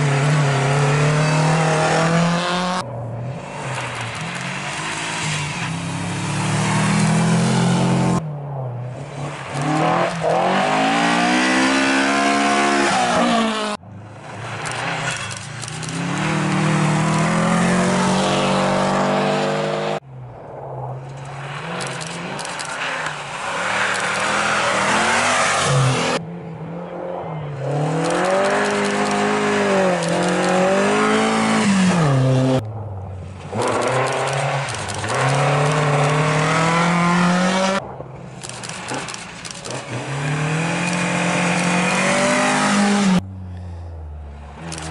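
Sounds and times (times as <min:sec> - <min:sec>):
rally car engines revving: 0:00.0 - 0:20.0, 0:20.9 - 0:37.8, 0:38.4 - 0:44.9.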